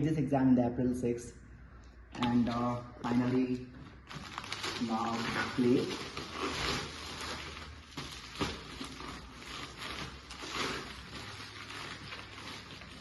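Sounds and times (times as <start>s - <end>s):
packaging rustling: 2.2s - 13.0s.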